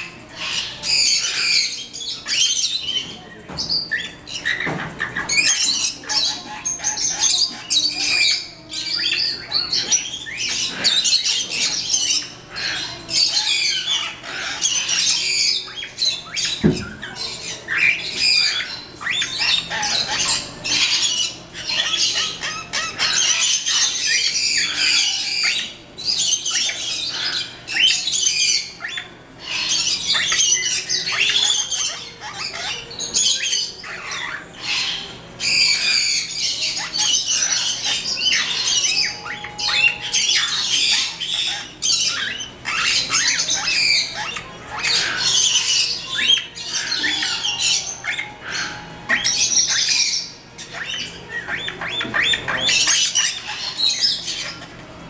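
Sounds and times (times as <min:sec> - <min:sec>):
parrots chirping and squawking: 0:00.0 - 0:55.0.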